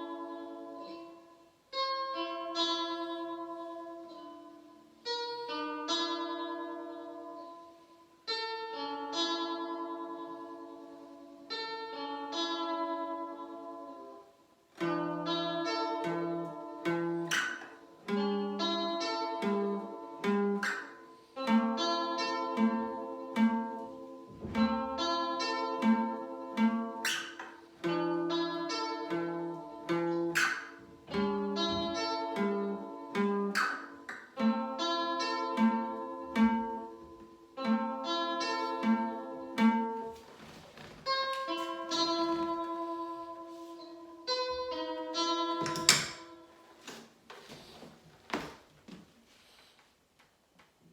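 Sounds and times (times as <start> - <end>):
plucked guitar arpeggios: 0.0 - 46.6.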